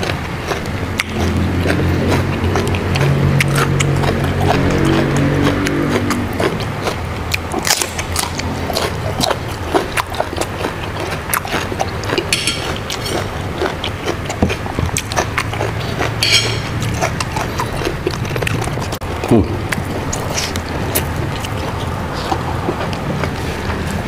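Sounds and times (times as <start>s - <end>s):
chewing with wet clicks and crunches: 0.0s - 24.0s.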